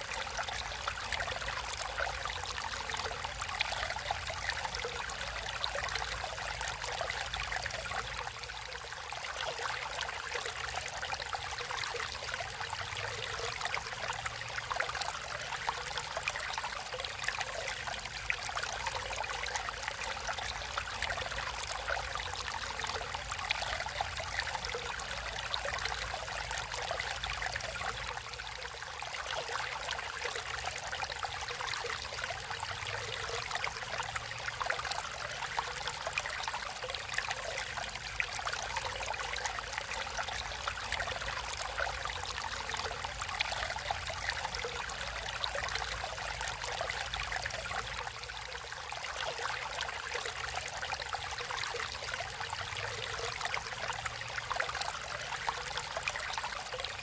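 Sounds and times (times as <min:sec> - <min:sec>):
stream water over rocks: 0:00.0 - 0:57.0.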